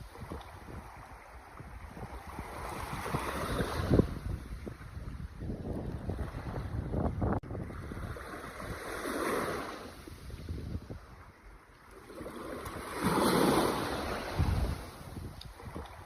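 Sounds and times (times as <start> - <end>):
ocean waves washing in: 0.0 - 16.0.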